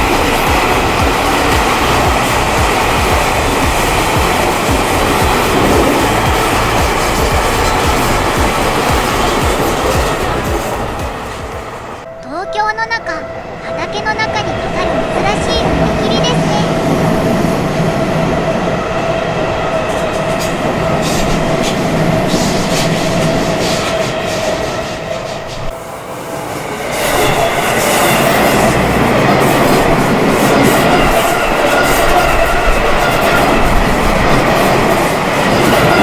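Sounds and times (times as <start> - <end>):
train wheels clattering over rails: 0.0 - 12.1, 15.6 - 25.7, 26.8 - 36.0
crossing warning bell ringing: 0.0 - 25.6, 26.7 - 36.0.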